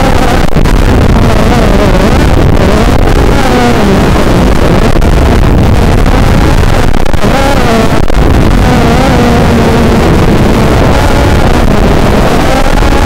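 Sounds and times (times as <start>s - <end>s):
quadcopter motors whining: 0.0s - 13.0s
wind noise: 0.0s - 13.0s.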